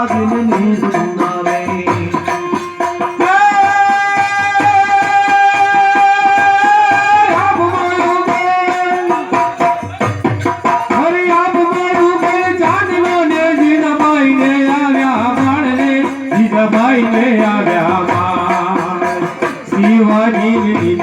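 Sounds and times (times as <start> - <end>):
tabla rhythm: 0.0 - 21.0.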